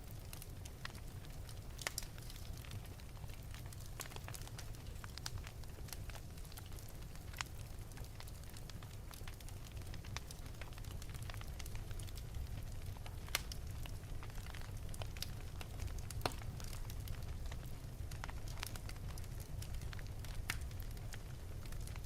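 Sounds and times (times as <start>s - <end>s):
fire crackling and popping: 0.0s - 22.0s
fire flames rumbling: 0.0s - 22.0s.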